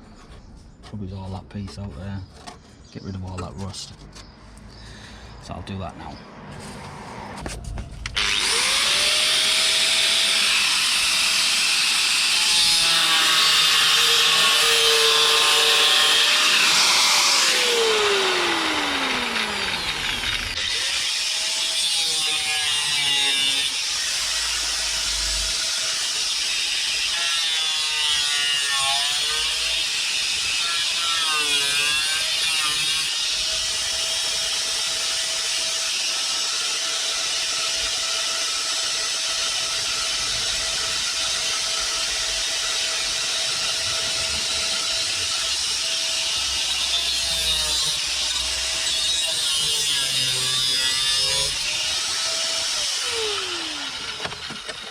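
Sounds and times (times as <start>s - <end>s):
power tool cutting sheet steel: 8.1s - 54.9s.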